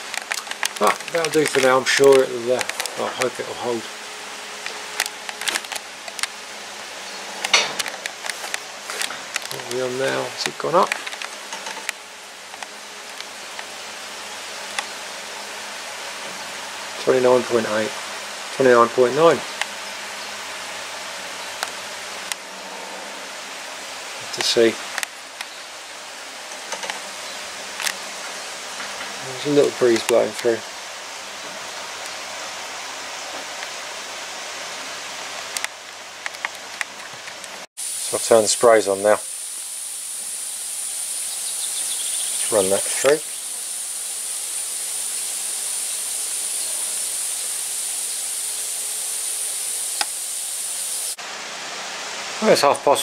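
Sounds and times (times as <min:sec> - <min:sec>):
electric fans whirring: 0:00.0 - 0:53.0.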